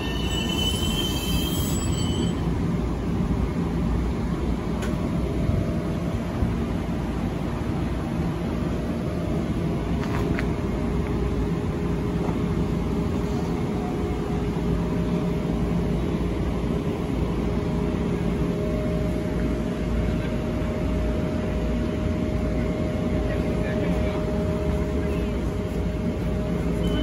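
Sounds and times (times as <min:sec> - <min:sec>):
electric train humming with tones: 0:00.0 - 0:27.0.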